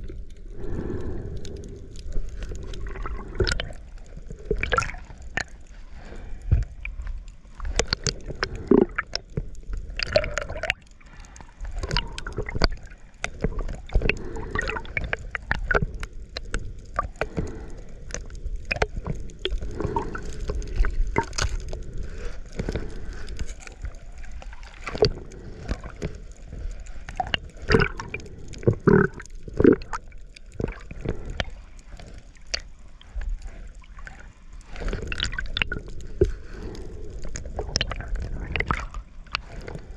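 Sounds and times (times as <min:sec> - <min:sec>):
seawater sloshing and gurgling: 0:00.0 - 0:17.8, 0:18.6 - 0:39.9
crackling clicks: 0:00.0 - 0:39.9
water splashes: 0:00.0 - 0:39.9.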